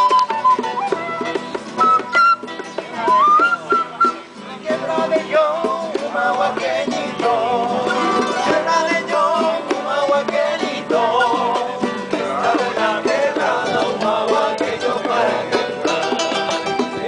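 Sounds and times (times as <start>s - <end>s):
acoustic folk music on plucked strings: 0.0s - 17.0s.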